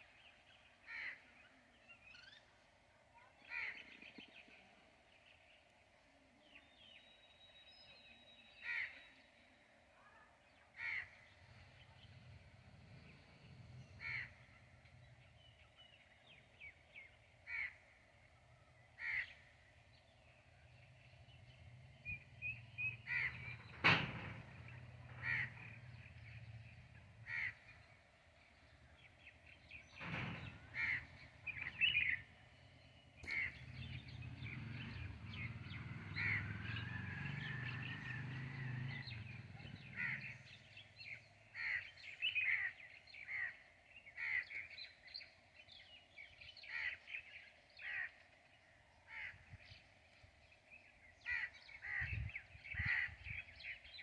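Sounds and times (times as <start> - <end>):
harsh bird calls: 0.0 - 2.5, 3.2 - 4.6, 6.7 - 54.0.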